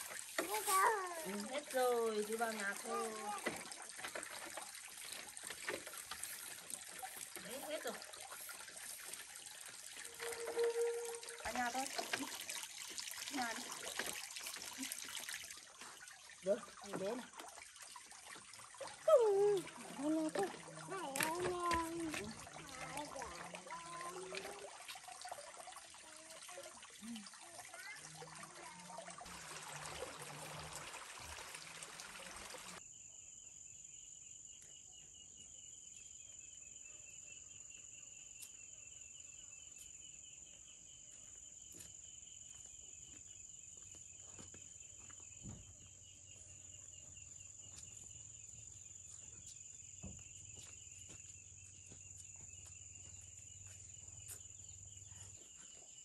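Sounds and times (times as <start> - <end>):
water trickling and splashing: 0.0 - 32.8, 41.5 - 56.0
insects chirring: 0.0 - 56.0.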